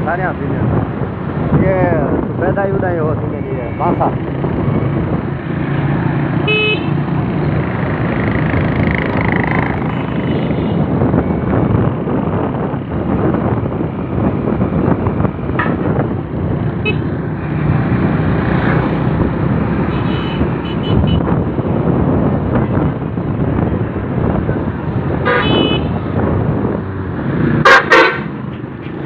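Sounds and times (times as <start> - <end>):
motorcycle engines droning: 0.0 - 29.0.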